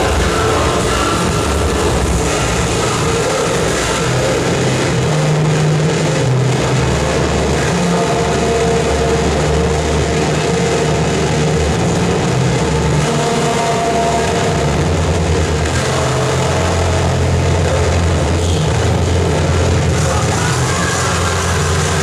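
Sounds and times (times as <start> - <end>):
harsh distorted static noise: 0.0 - 22.0
low droning tones: 0.0 - 22.0.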